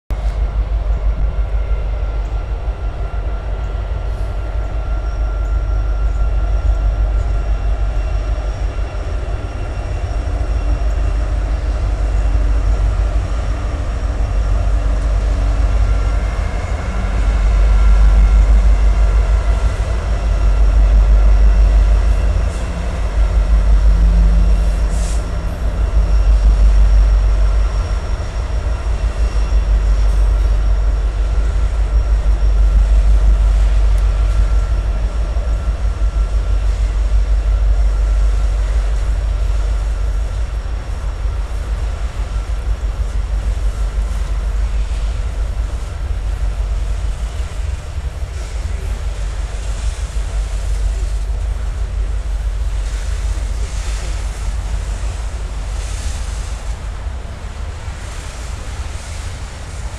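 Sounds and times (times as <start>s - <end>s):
freight train rumbling over bridge: 0.0s - 59.9s.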